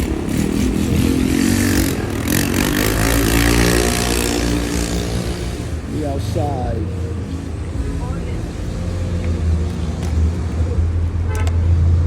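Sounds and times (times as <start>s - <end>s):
engine running and revving: 0.0s - 12.0s.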